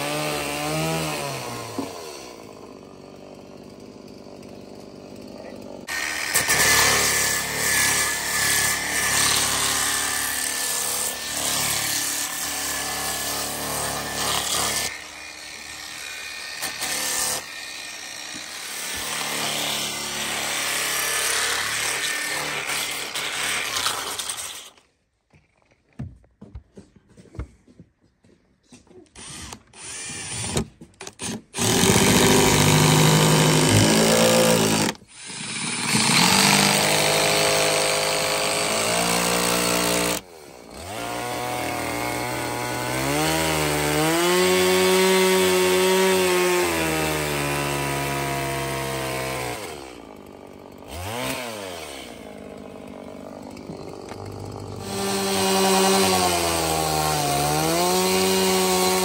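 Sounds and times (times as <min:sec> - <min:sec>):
chainsaw cutting wood: 0:00.0 - 0:24.9, 0:29.2 - 0:59.0.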